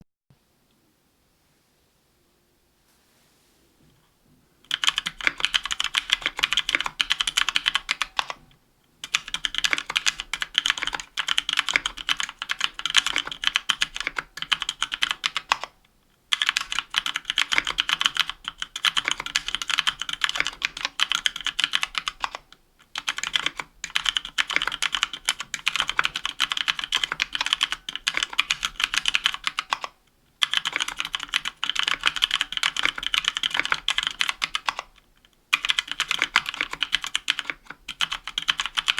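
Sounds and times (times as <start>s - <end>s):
mechanical keyboard typing: 4.7s - 38.9s.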